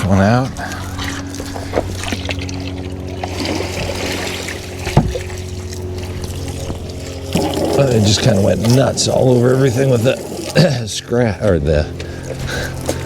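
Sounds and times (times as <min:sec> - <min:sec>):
steady low hum: 0:00.0 - 0:13.0
water splashing and trickling: 0:00.0 - 0:13.0.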